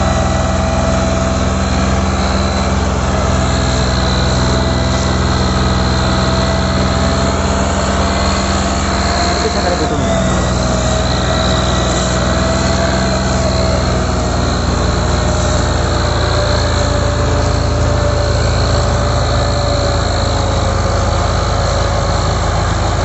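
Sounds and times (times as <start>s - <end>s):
tractor diesel engine straining: 0.0s - 23.0s.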